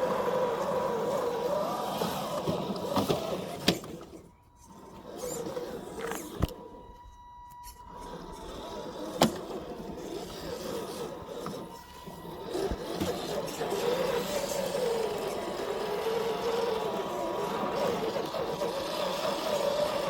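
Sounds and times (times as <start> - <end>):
truck scraping on forest ground: 0.0 - 6.8, 7.7 - 20.0
electric motor and gearbox whining: 0.0 - 20.0.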